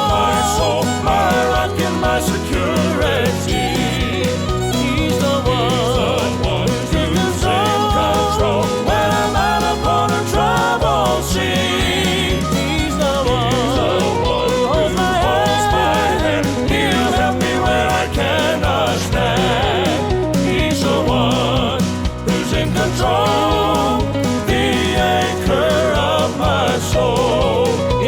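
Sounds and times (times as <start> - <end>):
country gospel song: 0.0 - 28.0.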